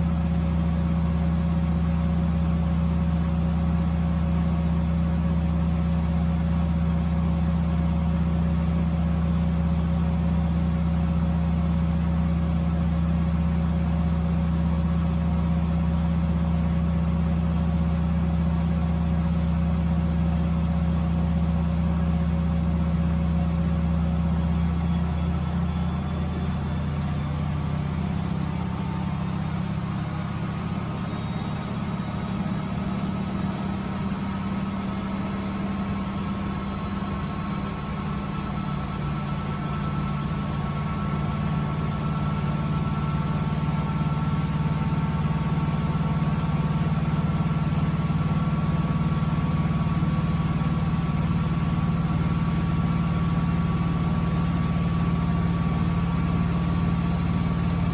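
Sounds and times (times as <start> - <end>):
washing machine spinning: 10.4 - 57.9.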